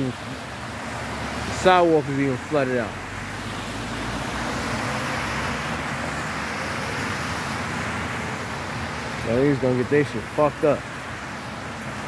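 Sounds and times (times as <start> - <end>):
car tyres hissing through water: 0.0 - 12.0.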